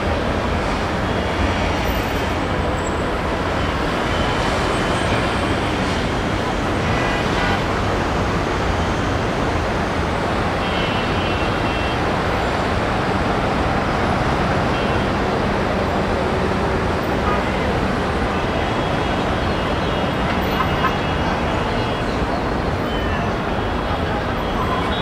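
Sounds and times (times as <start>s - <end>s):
distant traffic noise: 0.0s - 25.0s.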